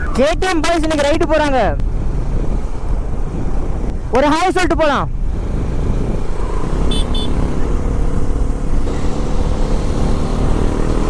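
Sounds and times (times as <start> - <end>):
motorcycle engine rumble: 1.7 - 11.0.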